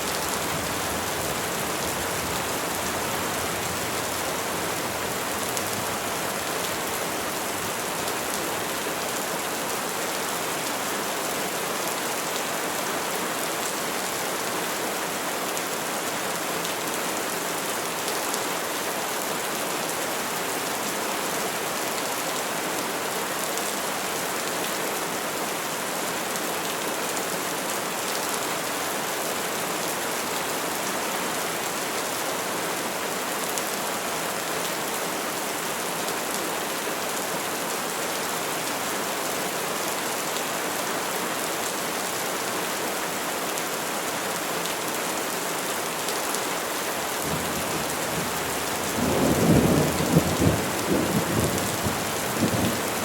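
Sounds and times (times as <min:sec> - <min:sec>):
rain on trees and foliage: 0:00.0 - 0:53.0.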